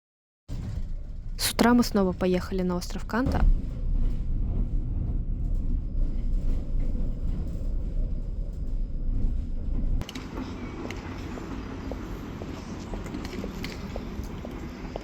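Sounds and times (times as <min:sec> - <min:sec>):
steady low rumble: 0:00.5 - 0:15.0.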